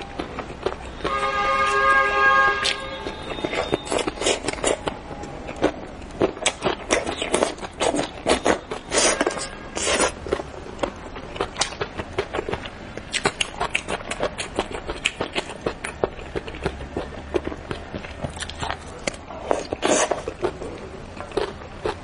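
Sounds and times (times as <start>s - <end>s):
close eating slurps and chewing: 2.6s - 22.0s.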